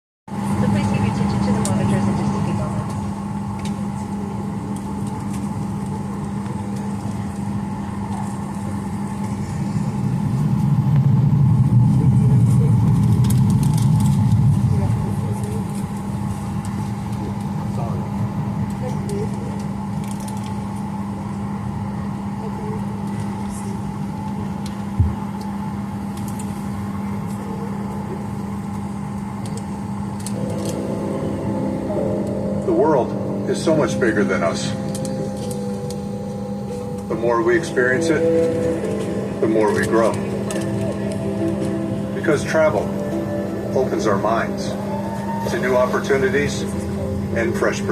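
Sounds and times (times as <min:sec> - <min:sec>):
steady pitched tones: 0:00.3 - 0:22.9, 0:29.8 - 0:47.9
airplane cabin hum: 0:00.3 - 0:47.9
low rumble: 0:00.3 - 0:47.9.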